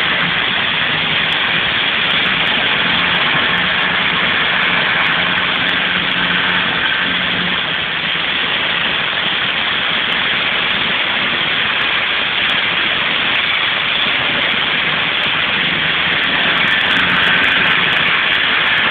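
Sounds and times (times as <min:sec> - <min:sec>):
low machine hum: 0:00.0 - 0:18.9
water jets hissing on steel hull: 0:00.0 - 0:18.9.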